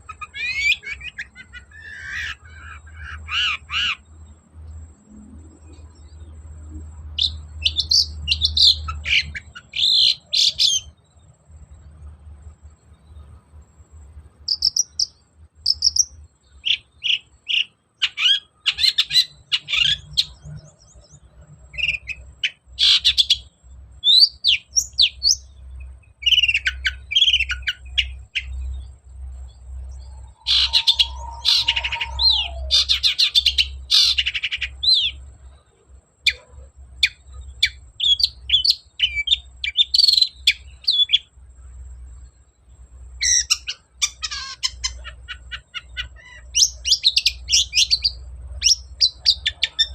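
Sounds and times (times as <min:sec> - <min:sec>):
bird singing rapid chirps: 0:00.0 - 0:49.9.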